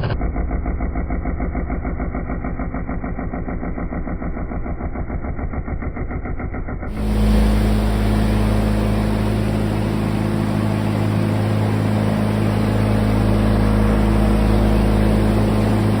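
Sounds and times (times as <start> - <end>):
mechanical drone with low hum: 0.0 - 16.0.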